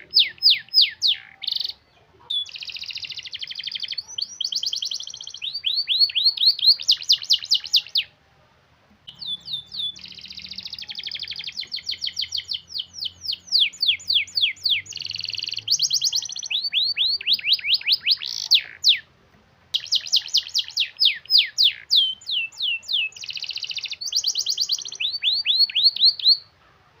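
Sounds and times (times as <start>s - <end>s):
canary singing trills: 0.0s - 8.2s, 9.0s - 19.1s, 19.7s - 27.0s.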